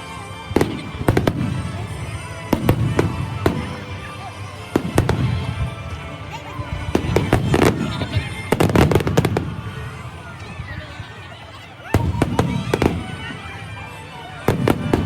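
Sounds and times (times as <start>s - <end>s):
fireworks bursting with sharp bangs: 0.0s - 11.2s, 11.8s - 15.0s.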